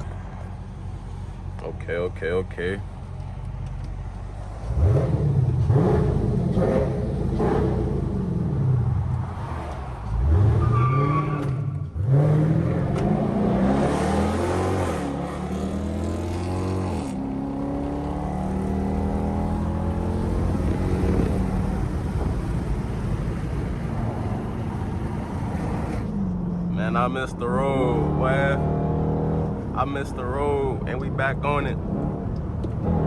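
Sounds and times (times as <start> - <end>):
car exhaust under hard acceleration: 2.8 - 33.0.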